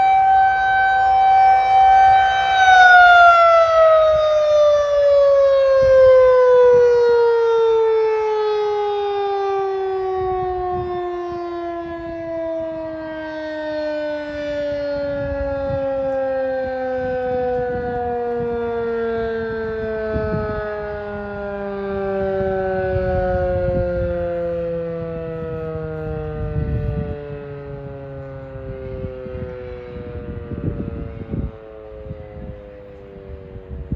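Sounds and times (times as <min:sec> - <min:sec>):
siren winding down: 0:00.0 - 0:33.9.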